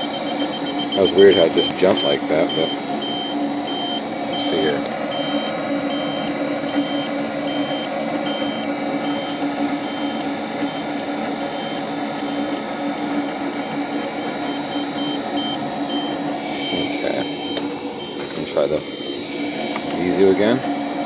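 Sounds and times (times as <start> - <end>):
gas detector beeping: 0.0 - 20.6
gas furnace hum: 0.0 - 21.0.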